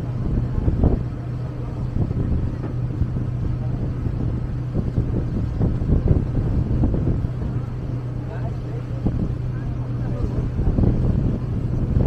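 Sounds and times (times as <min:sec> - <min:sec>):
boat engine humming: 0:00.0 - 0:12.0
wind buffeting microphone: 0:00.0 - 0:12.0.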